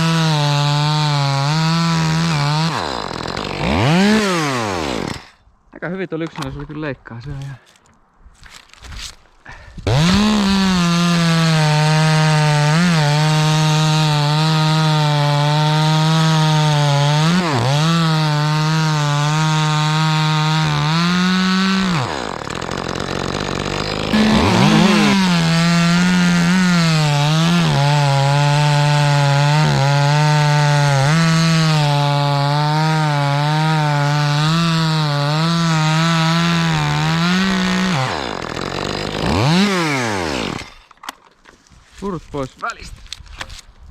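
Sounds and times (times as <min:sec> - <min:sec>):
chainsaw cutting wood: 0:00.0 - 0:05.4, 0:09.8 - 0:41.2.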